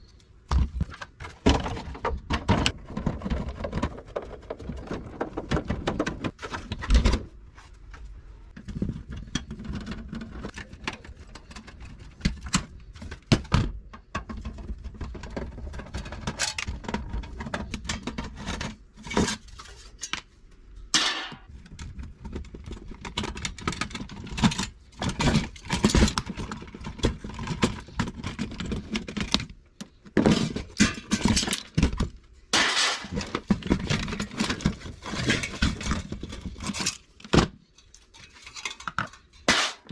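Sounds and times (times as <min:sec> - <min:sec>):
plastic and metal parts clattering: 0:00.4 - 0:20.3, 0:21.0 - 0:39.9.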